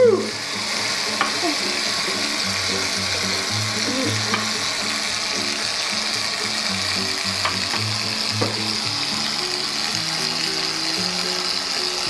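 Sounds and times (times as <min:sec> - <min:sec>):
aerosol can hissing: 0:00.0 - 0:12.0.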